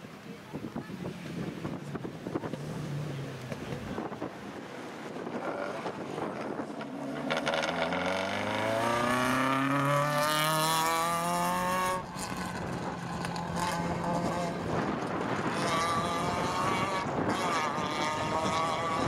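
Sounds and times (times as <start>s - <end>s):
car engine accelerating: 1.0s - 19.0s.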